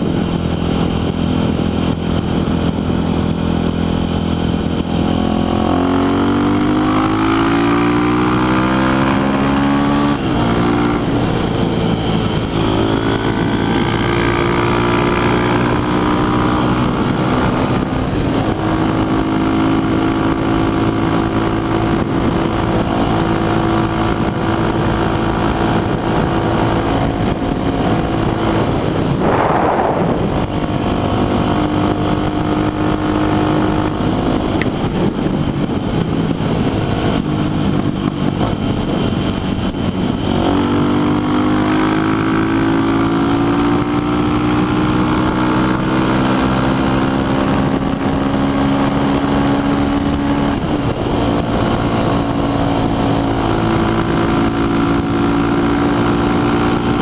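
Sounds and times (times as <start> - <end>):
dirt bike engine accelerating: 0.0 - 57.0.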